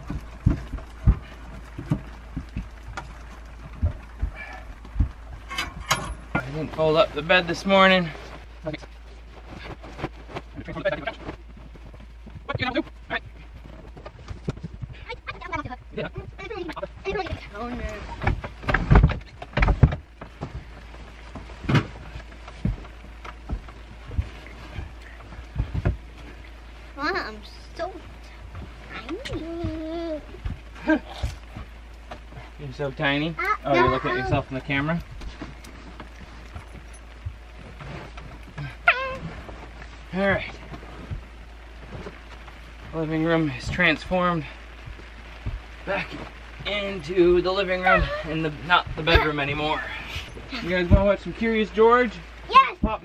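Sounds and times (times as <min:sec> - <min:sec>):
bedding thumps and rustles: 0:00.0 - 0:53.0
low steady hum: 0:00.0 - 0:53.0.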